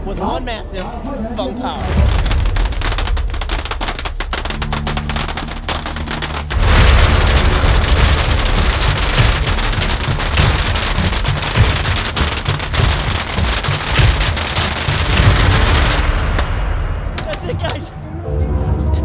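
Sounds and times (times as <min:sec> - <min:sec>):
bottle rockets crackling: 0:01.6 - 0:17.8.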